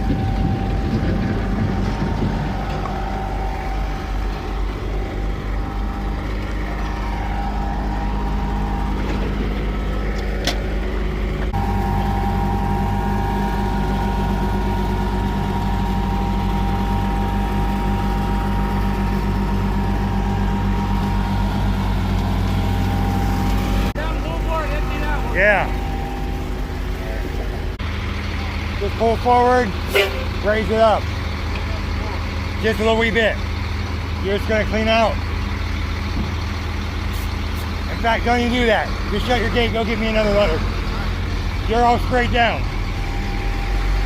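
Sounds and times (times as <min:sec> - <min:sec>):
heavy equipment engine running: 0:00.0 - 0:44.0.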